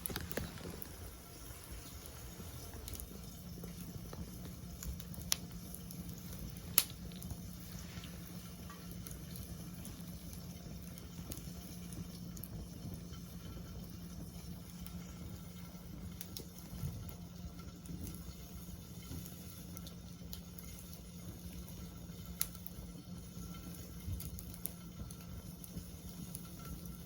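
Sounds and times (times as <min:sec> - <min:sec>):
sharp pops from fire: 0:00.0 - 0:27.0
wood fire crackling: 0:00.0 - 0:27.0.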